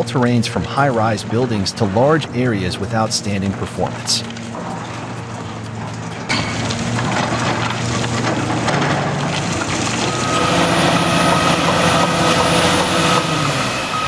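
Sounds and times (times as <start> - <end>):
heavy machinery engine running: 2.3 - 14.0.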